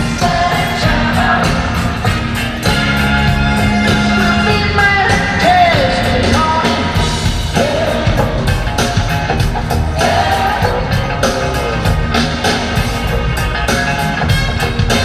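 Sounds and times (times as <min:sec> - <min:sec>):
lead vocal singing: 0:00.0 - 0:13.1
rock band playing loudly: 0:00.0 - 0:15.0.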